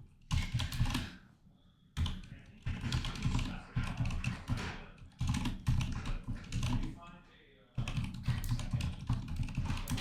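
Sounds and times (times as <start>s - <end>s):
computer keyboard typing: 0.0s - 1.2s, 2.0s - 7.0s, 7.8s - 10.0s.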